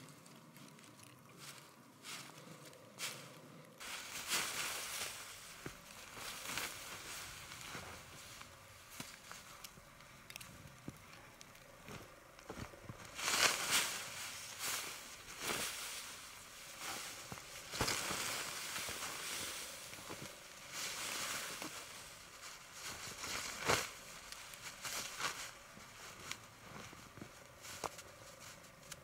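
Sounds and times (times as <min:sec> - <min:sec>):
rustling and crunching handling: 0:00.0 - 0:29.0.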